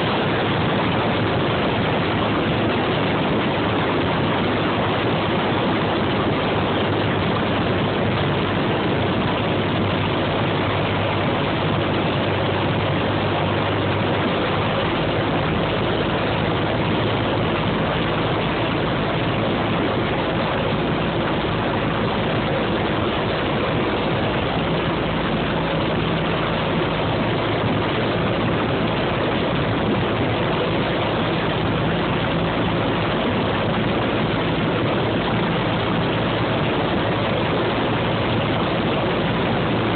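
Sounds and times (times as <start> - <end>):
light aircraft engine drone: 0.0 - 39.9
rushing airflow: 0.0 - 39.9.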